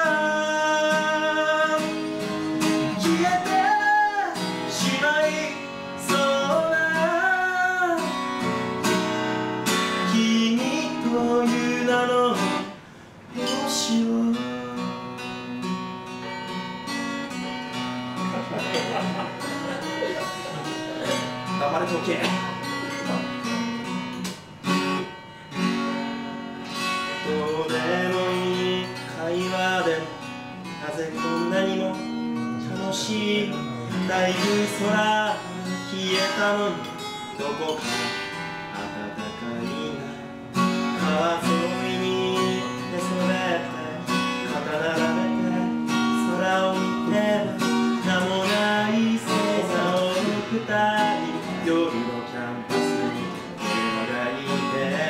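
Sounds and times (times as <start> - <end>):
man singing: 0.0 - 16.5, 27.0 - 55.0
acoustic guitar strummed: 0.0 - 55.0.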